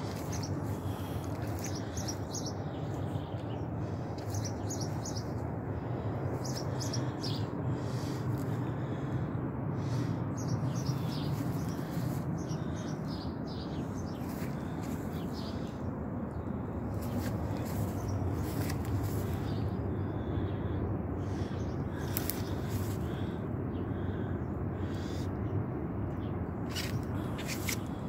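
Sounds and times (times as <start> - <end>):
small songbirds chirping: 0.0 - 9.2, 9.8 - 25.5, 26.1 - 28.0
low background rumble: 0.0 - 28.0.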